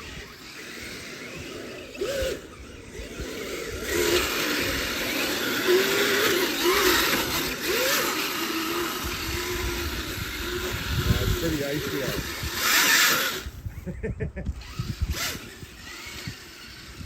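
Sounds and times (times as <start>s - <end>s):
toy vehicle motor whining: 0.0s - 17.0s.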